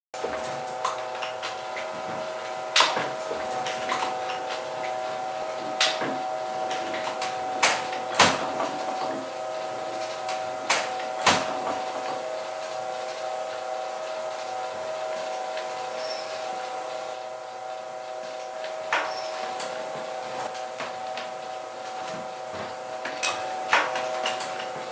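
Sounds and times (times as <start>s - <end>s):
printing press rolling: 0.2s - 24.9s
steady hum: 0.2s - 24.9s.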